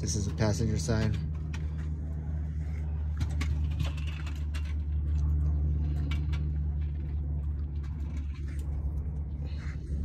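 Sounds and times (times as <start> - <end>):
low engine rumble: 0.0 - 10.0.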